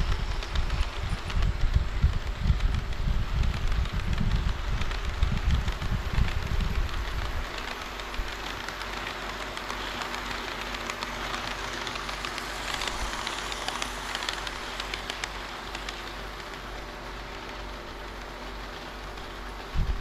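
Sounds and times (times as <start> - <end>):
faint motor hum: 0.0 - 20.0
model train wheels rattling: 0.0 - 20.0.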